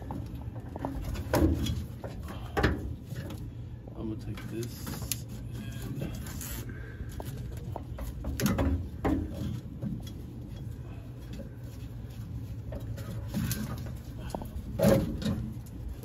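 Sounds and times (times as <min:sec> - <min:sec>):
knocks of handling parts: 0:00.0 - 0:05.4, 0:07.1 - 0:16.0
steady low hum: 0:00.0 - 0:16.0.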